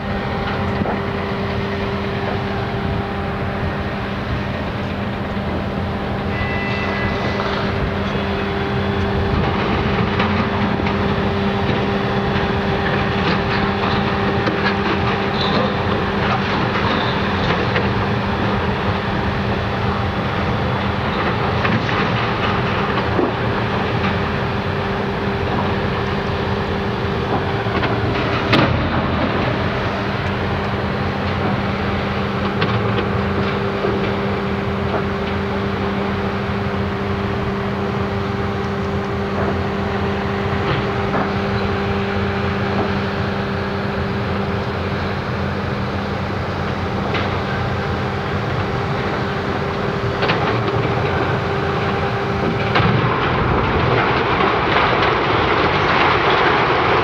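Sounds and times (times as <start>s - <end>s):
mechanical drone: 0.0s - 57.0s.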